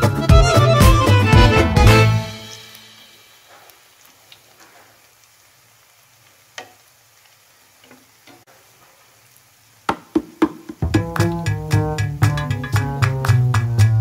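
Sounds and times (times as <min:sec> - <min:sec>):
food deep-frying in hot oil: 0:01.9 - 0:14.0.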